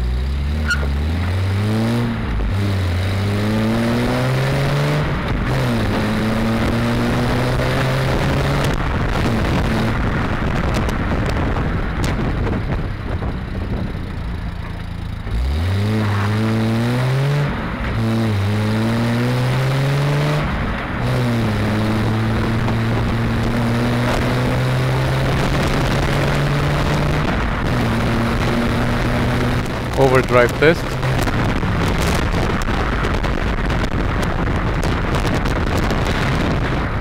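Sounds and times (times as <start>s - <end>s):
car engine accelerating: 0.0s - 37.0s
road noise: 0.0s - 37.0s.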